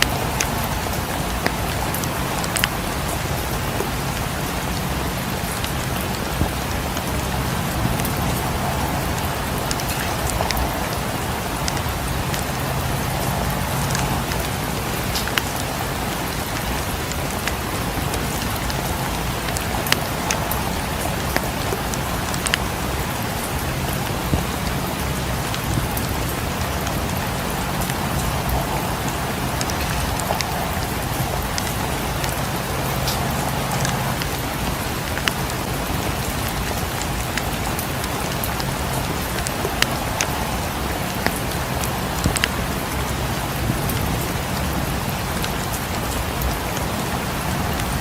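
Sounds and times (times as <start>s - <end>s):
rain against a window: 0.0s - 48.0s
wood fire crackling: 0.0s - 48.0s.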